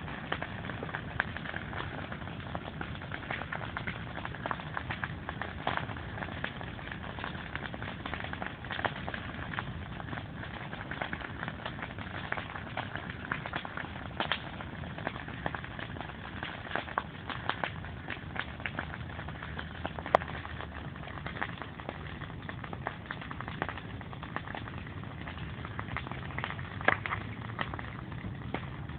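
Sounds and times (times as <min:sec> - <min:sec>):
campfire crackling and popping: 0:00.0 - 0:28.9.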